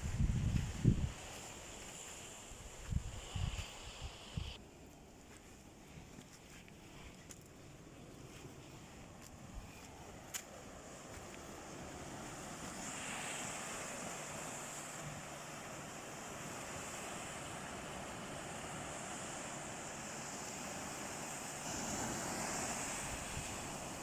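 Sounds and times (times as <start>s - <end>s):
sea surf washing on shore: 0.0s - 4.6s, 7.0s - 24.0s.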